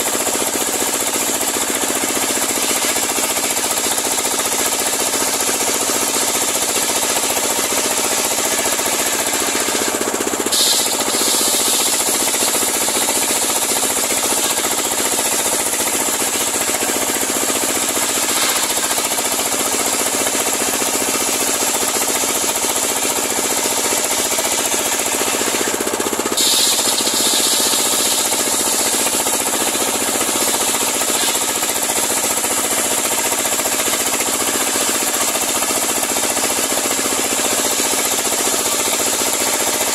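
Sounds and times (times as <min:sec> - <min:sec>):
circular sawmill cutting log: 0:00.0 - 0:39.9.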